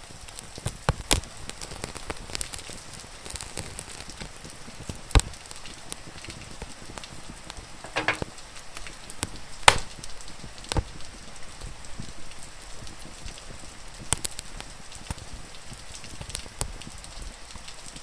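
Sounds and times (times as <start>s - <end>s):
rain hissing: 0.0s - 18.0s
wood fire crackling and popping: 0.0s - 18.0s.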